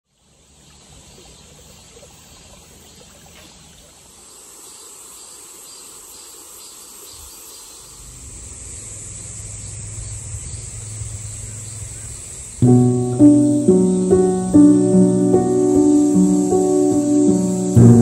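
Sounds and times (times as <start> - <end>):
crickets chirping: 0.3 - 18.0.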